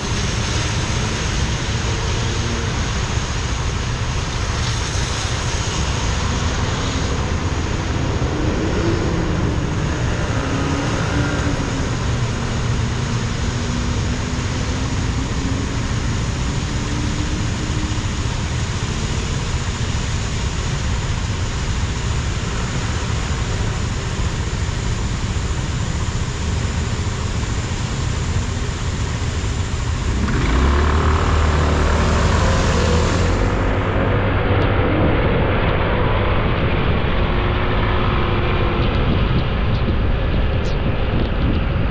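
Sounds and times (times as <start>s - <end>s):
faint engine hum: 0.0s - 41.9s
road and tyre noise: 0.0s - 41.9s.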